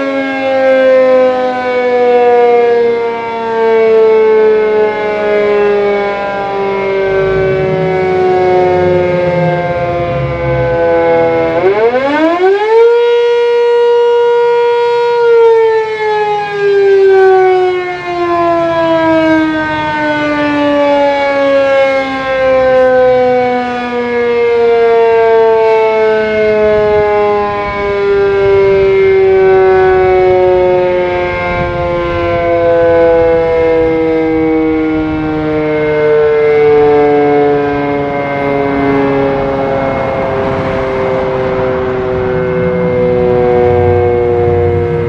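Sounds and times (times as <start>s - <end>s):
warning sirens gliding down: 0.0s - 45.0s.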